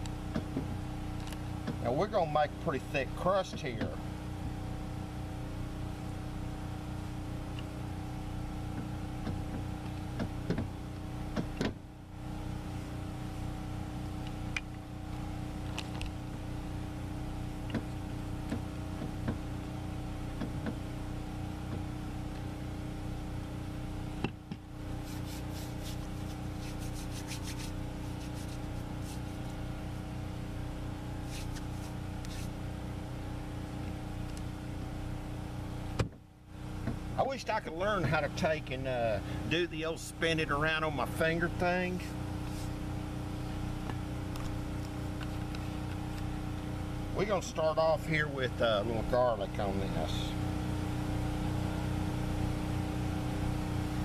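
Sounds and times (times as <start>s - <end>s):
motor humming: 2.6s - 54.0s.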